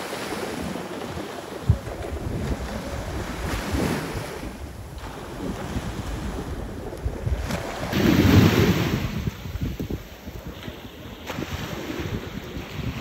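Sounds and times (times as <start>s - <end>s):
small waves washing up beach: 0.0s - 13.0s
wind buffeting microphone: 0.5s - 13.0s.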